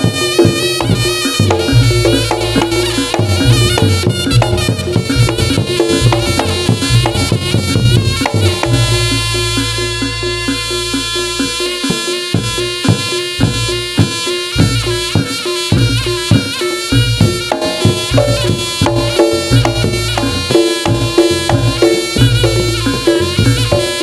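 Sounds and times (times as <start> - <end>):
hand drums beating: 0.0 - 24.0
nasal shawm melody: 0.0 - 24.0.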